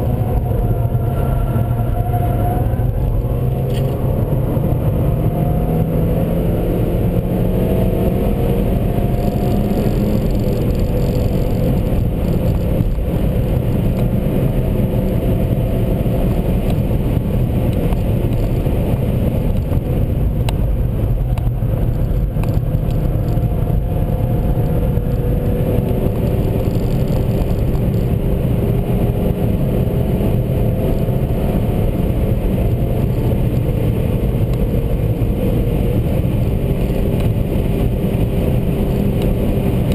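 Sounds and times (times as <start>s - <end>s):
car engine accelerating hard: 0.0s - 39.9s
road and wind noise: 0.0s - 39.9s.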